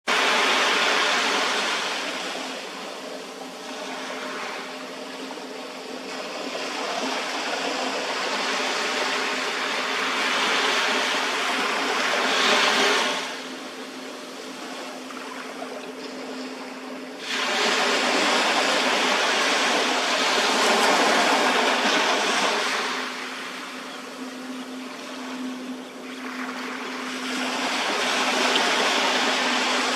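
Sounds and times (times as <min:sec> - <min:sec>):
sea waves washing onto beach: 0:00.1 - 0:23.8, 0:24.8 - 0:29.9
steady low hum: 0:00.1 - 0:29.9.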